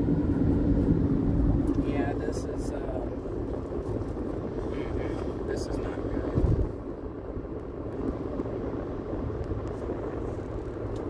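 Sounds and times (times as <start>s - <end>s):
road and engine rumble in car: 0.0s - 11.0s.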